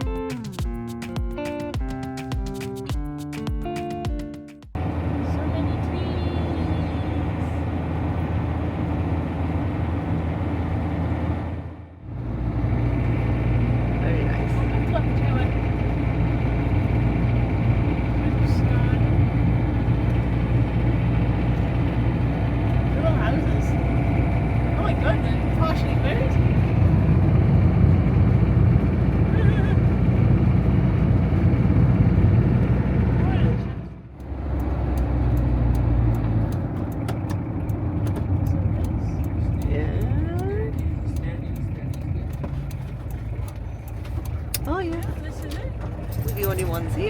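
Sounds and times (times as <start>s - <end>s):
vehicle engine and road drone: 0.0s - 3.8s, 4.8s - 47.0s.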